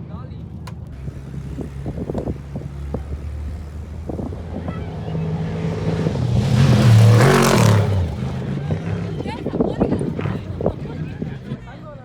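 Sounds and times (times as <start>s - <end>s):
race vehicle engine droning: 0.0s - 12.0s.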